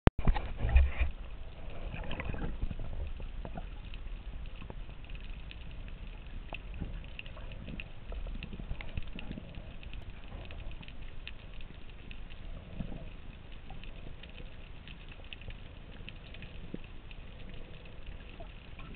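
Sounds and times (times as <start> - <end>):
low rumble of moving water: 0.2 - 18.9
underwater crackle of clicks: 0.2 - 18.9.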